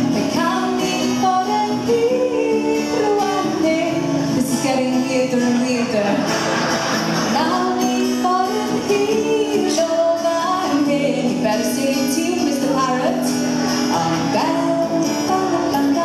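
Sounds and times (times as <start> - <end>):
woman singing: 0.0 - 6.2, 7.3 - 16.0
acoustic guitar: 0.0 - 16.0.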